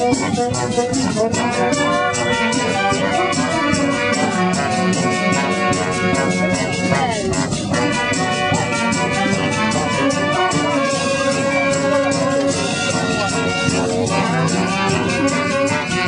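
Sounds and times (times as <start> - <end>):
brass band playing lively tune: 0.0 - 16.0.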